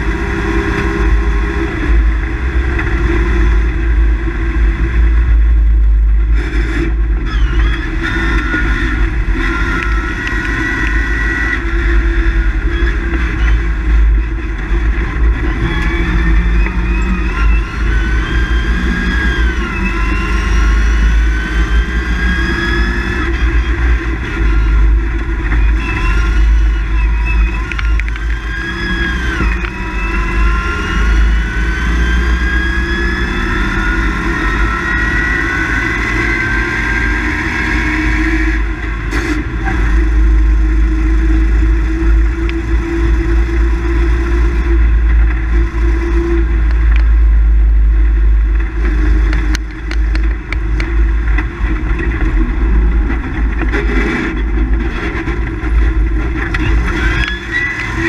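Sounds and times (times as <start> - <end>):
rally car engine accelerating: 0.0 - 58.0
road and drivetrain rumble: 0.0 - 58.0.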